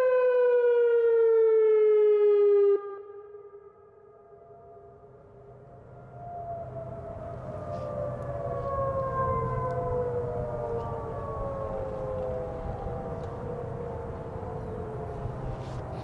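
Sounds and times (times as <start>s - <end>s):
warning siren wailing: 0.0s - 16.0s.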